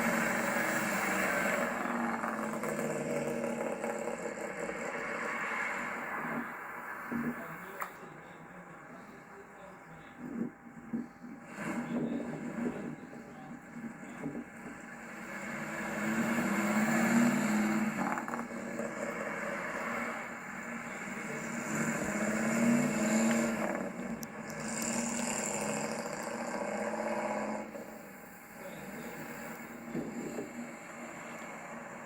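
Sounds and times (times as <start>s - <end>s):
car engine accelerating: 0.0s - 7.6s, 13.7s - 32.0s.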